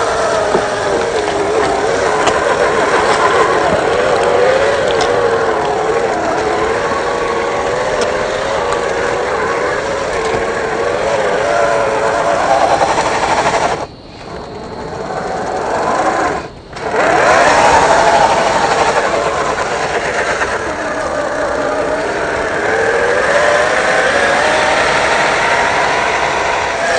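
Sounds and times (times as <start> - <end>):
electric motor and gears whining: 0.0 - 26.9.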